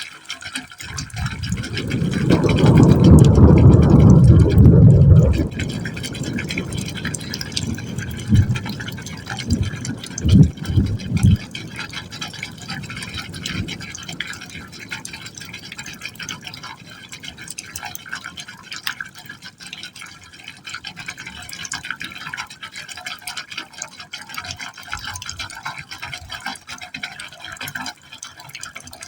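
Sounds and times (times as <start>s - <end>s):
water splashing into pipe hole: 0.1s - 29.0s.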